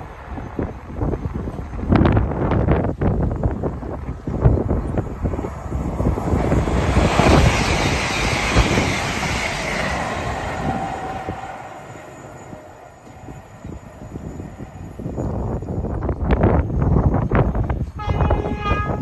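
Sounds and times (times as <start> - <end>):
falling whine of passing train: 0.0 - 19.0
train passing at speed: 0.0 - 19.0
wind gusts on microphone: 0.0 - 19.0.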